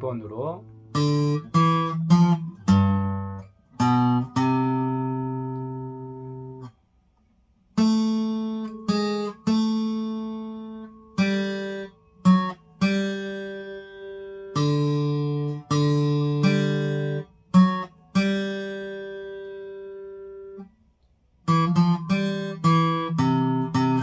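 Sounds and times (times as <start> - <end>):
acoustic guitar slow melody: 0.3 - 24.0.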